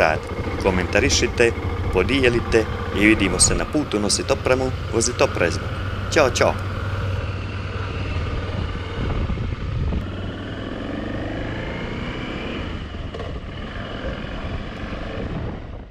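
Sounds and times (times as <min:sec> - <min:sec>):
motorcycle engine drone: 0:00.0 - 0:15.9
road and wind noise: 0:00.0 - 0:15.9.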